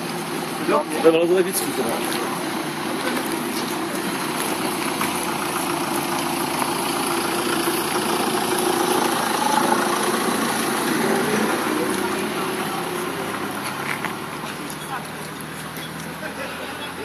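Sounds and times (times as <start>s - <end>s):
truck diesel engine idling: 0.0s - 17.0s
wide noisy hiss: 0.0s - 17.0s.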